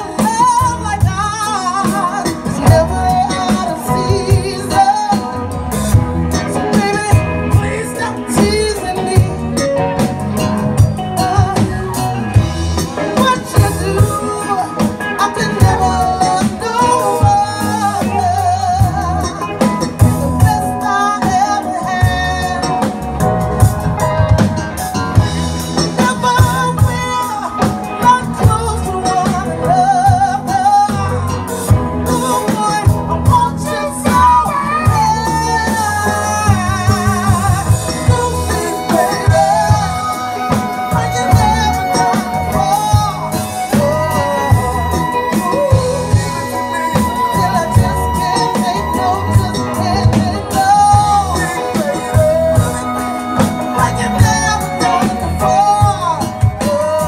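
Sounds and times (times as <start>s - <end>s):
drum kit: 0.0s - 57.0s
electric guitar: 0.0s - 57.0s
person singing: 0.0s - 57.0s.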